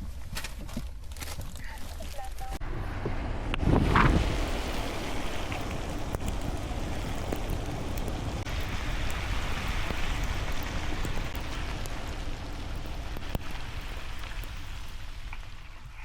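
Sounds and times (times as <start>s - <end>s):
heavy low rumble: 0.0s - 16.0s
wind and wet snow rushing: 0.0s - 16.0s.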